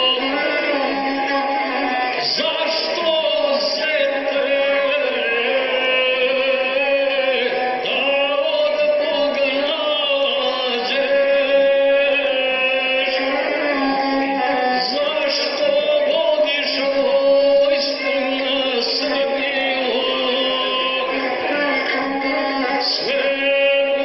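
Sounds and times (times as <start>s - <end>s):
bowed folk fiddle: 0.0s - 24.0s
man singing in chanting style: 0.0s - 24.0s.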